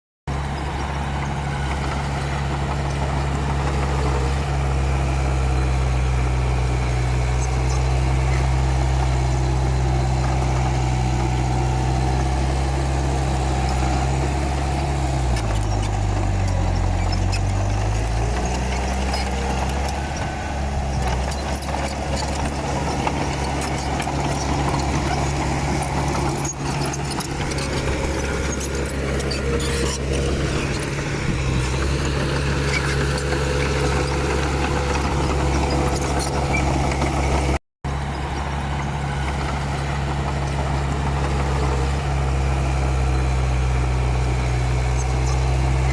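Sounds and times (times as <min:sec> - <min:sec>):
bulldozer diesel engine running: 0:00.3 - 0:45.9.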